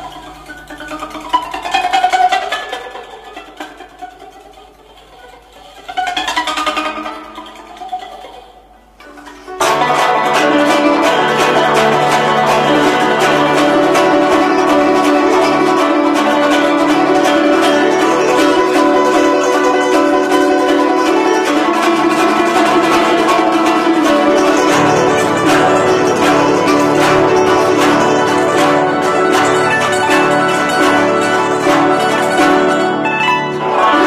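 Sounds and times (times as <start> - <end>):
zither plucked in fast runs: 0.0 - 8.4, 9.1 - 34.0.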